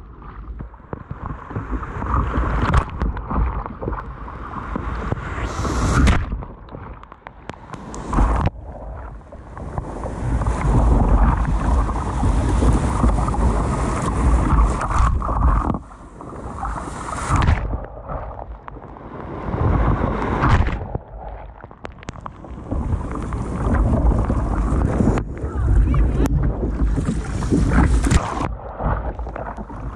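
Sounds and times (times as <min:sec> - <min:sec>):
sea water rushing and splashing: 0:00.0 - 0:29.9
wind buffeting microphone: 0:00.0 - 0:29.9.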